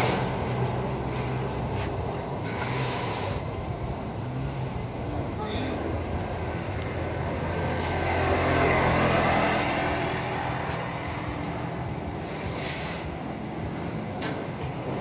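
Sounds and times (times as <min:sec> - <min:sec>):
low engine hum: 0:00.0 - 0:15.0
vehicle passing on road: 0:00.0 - 0:15.0.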